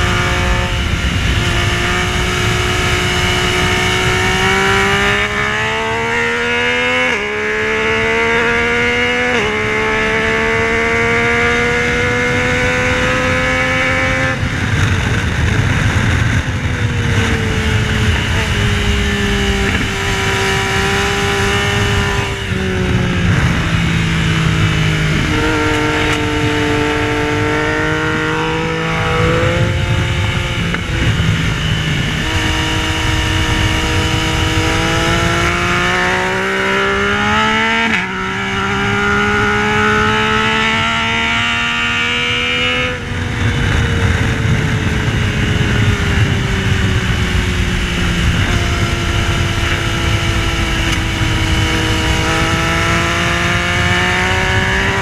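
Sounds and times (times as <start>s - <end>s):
motorcycle engine accelerating hard: 0.0s - 55.0s.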